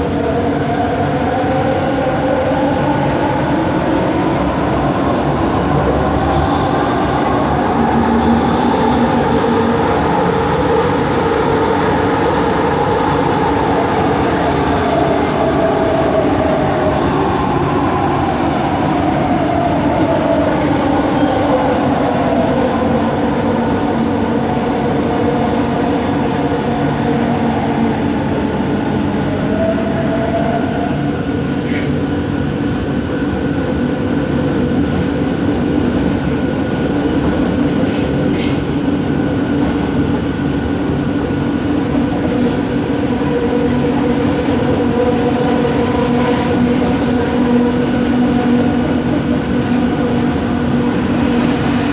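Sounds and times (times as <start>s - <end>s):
metro train motor whine: 0.0s - 51.9s
train rolling noise: 0.0s - 51.9s.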